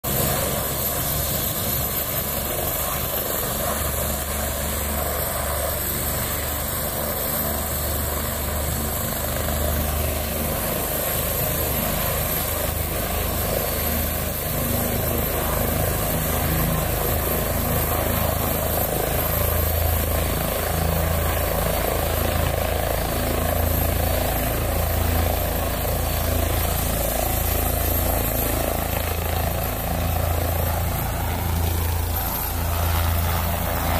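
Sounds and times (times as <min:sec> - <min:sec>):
helicopter rotor beating: 0:00.0 - 0:33.9
turbine whine: 0:00.1 - 0:33.9.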